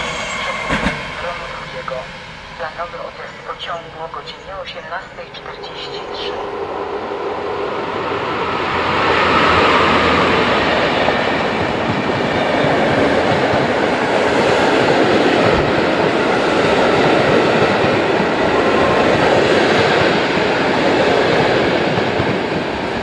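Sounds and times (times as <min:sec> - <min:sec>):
electric locomotive passing: 0:00.0 - 0:23.0
train wheels rolling on rail: 0:00.0 - 0:23.0.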